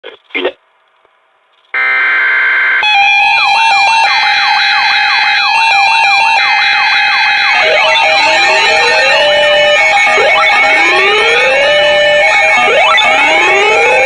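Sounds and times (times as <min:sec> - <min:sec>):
fast up-and-down siren sweep: 0:01.8 - 0:14.0
steady alarm tone: 0:01.8 - 0:14.0.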